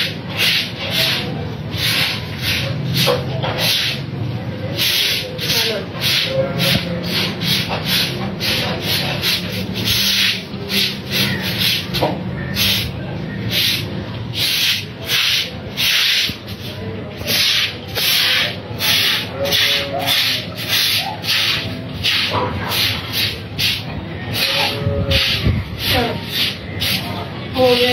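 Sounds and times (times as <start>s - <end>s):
brush scrubbing wet concrete: 0.0s - 27.9s.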